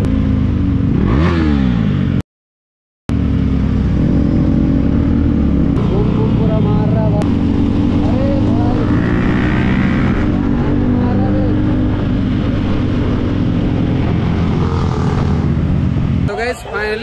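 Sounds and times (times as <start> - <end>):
motorcycle engine running: 0.0 - 2.2, 3.1 - 17.0.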